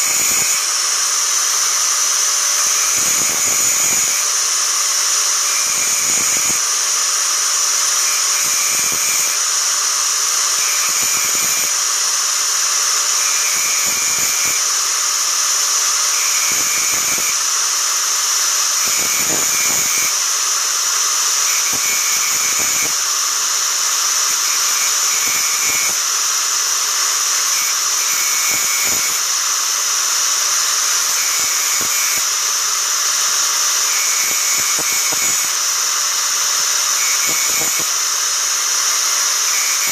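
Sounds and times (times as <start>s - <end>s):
angle grinder grinding saw blade: 0.0s - 39.9s.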